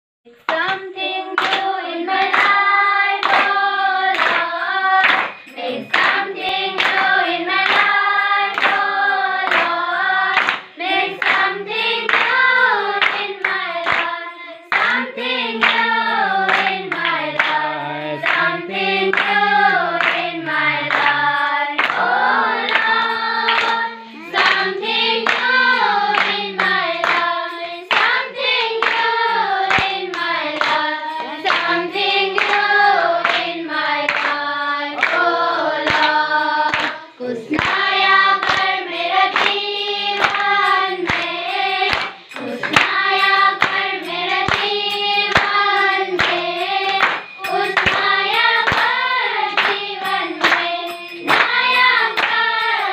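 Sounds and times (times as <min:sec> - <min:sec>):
children singing in unison: 0:00.5 - 0:52.9
hands clapping: 0:00.5 - 0:52.9.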